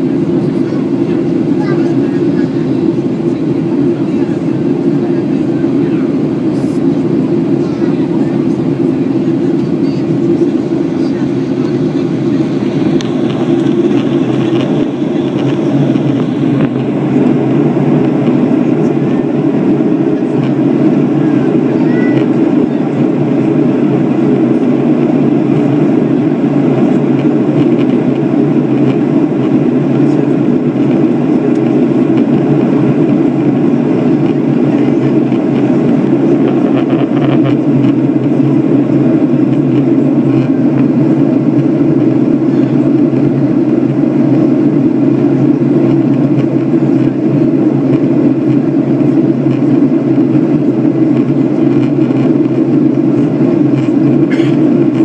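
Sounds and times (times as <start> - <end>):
jet engines droning: 0.0 - 55.0
rushing airflow: 0.0 - 55.0.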